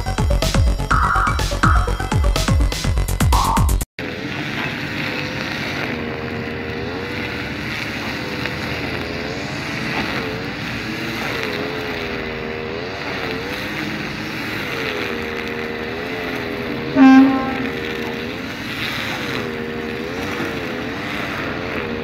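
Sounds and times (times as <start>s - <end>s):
diesel train engine running: 4.0s - 22.0s
steady rushing noise: 4.0s - 22.0s.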